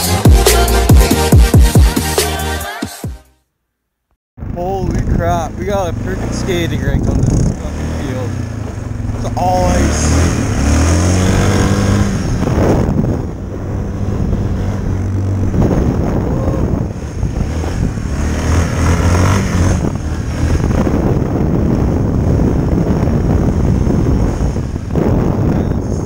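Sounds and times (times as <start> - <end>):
atv engine running: 4.4 - 26.0
wind buffeting microphone: 4.4 - 26.0.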